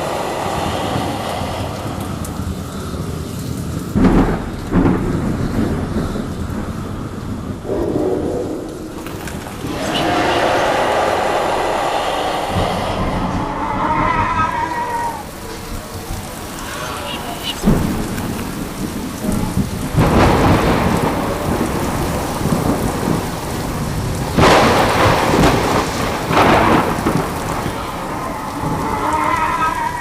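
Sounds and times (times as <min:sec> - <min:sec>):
steady rain: 0:00.0 - 0:30.0
thunder crashes: 0:00.0 - 0:30.0.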